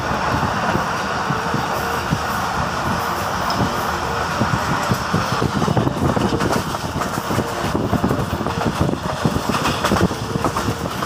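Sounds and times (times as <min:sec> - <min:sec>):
train rumble from inside coach: 0:00.0 - 0:11.0
train wheels rattling: 0:00.0 - 0:11.0.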